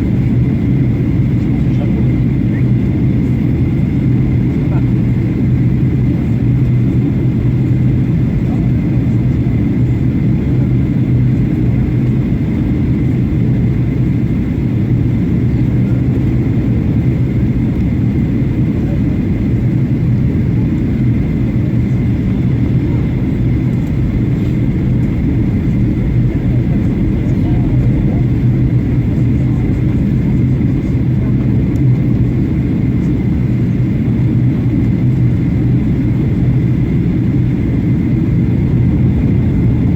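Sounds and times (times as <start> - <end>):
constant low hum: 0.0 - 39.9
jet engines droning: 0.0 - 39.9.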